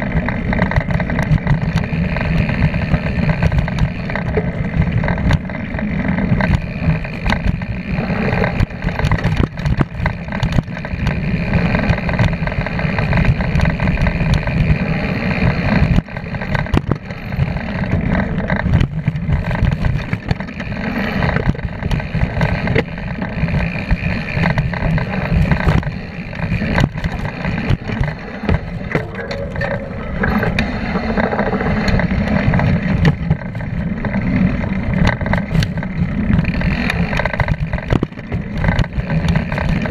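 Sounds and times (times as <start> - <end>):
bike knocks and rattles: 0.0 - 39.9.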